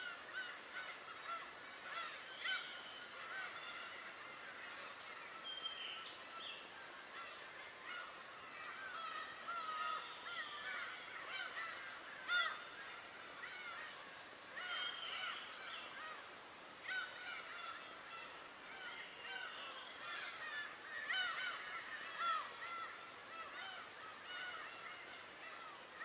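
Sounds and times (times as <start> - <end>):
flock of birds calling: 0.0 - 26.0.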